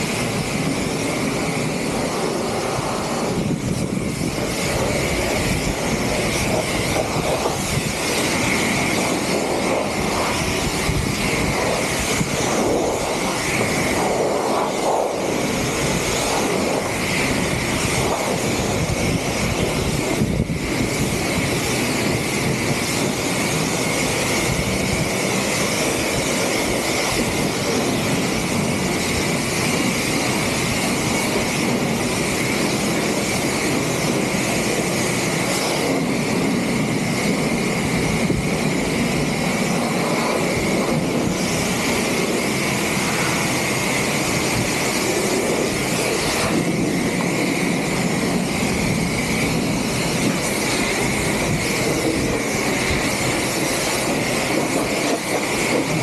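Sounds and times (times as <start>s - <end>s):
loud rushing noise: 0.0s - 56.0s.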